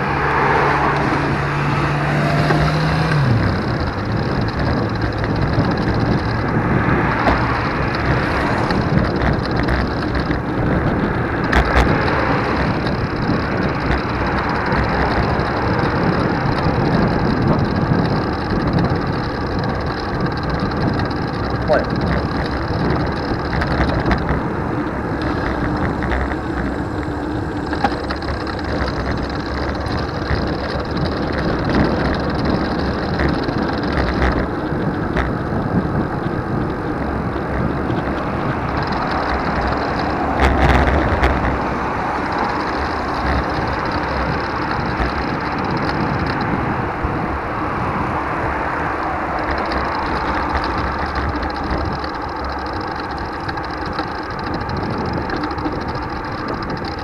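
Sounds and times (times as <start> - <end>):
bicycle road noise: 0.0 - 57.0.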